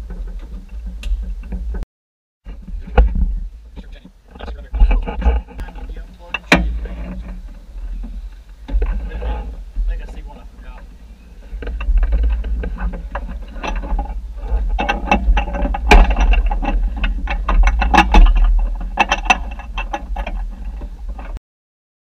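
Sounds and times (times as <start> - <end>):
steady low rumble: 2.5 - 21.4.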